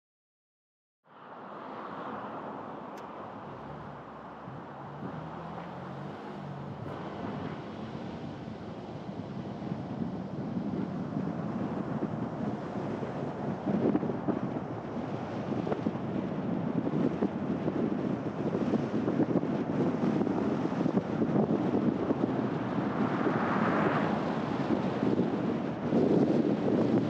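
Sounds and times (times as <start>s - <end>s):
road and wind noise: 1.0s - 27.0s
faint engine hum: 1.1s - 27.0s.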